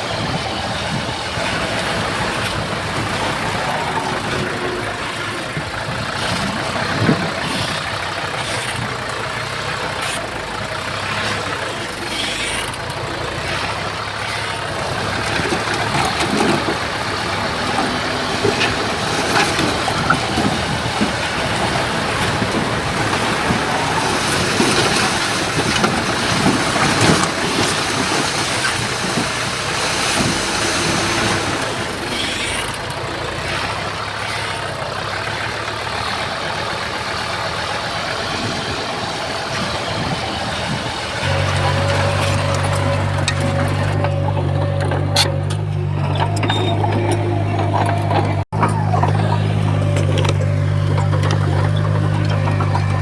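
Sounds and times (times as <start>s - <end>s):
knocks and clanks: 0.0s - 36.4s, 37.1s - 53.0s
heavy machinery diesel engines: 0.0s - 53.0s.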